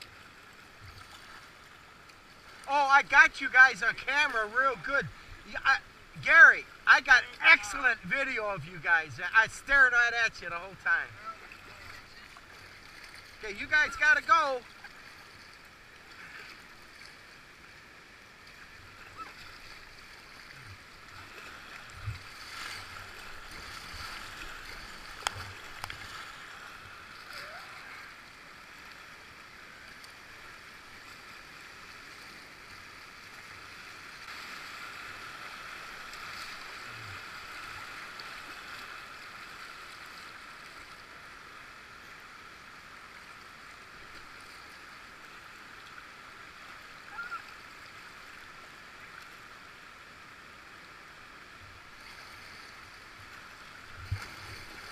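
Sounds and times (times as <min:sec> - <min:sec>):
river water rushing over rapids: 0:00.4 - 0:54.9.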